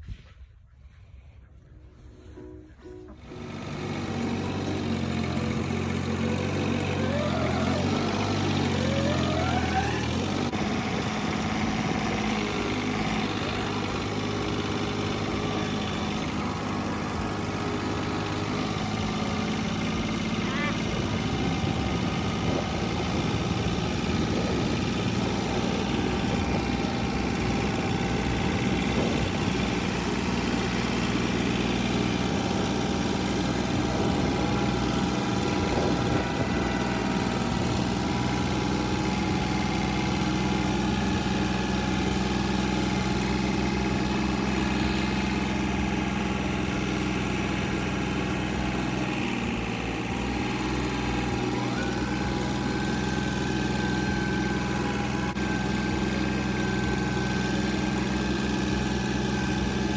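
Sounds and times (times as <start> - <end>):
tractor engine running: 1.7 - 59.9.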